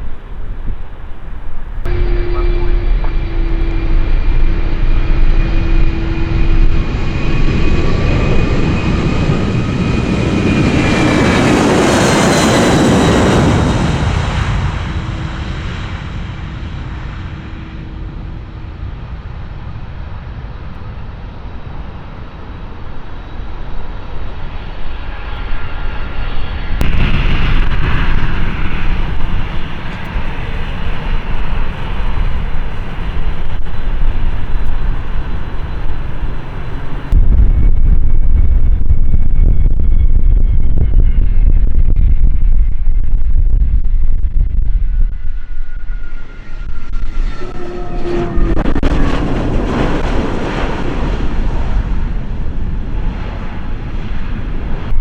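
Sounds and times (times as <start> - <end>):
jet engines passing close: 0.0 - 55.0
low rumble of engines: 0.0 - 55.0
jet whine falling in pitch: 1.4 - 18.8, 24.6 - 51.6.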